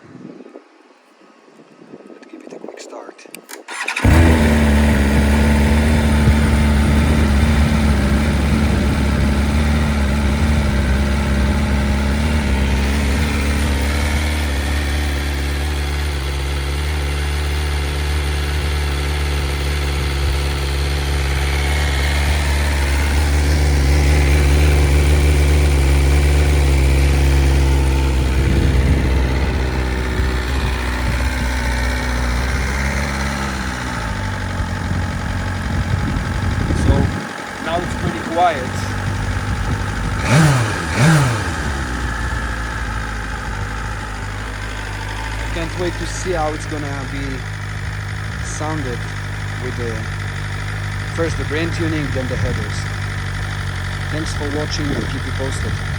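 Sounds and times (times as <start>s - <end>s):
motorcycle engine idling: 3.7s - 55.9s.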